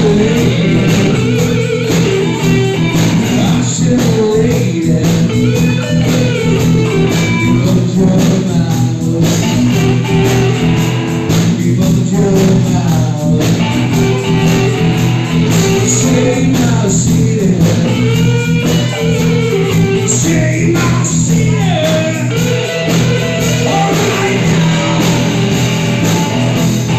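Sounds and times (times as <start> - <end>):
live blues rock band: 0.0 - 26.9.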